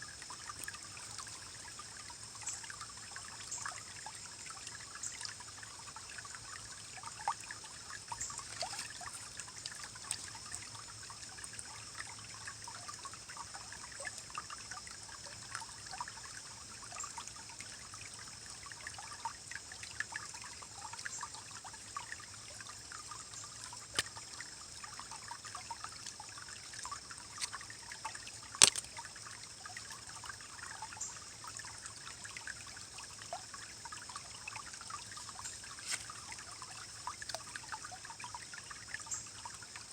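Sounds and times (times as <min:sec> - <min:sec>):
stream rippling and gurgling: 0:00.0 - 0:39.9.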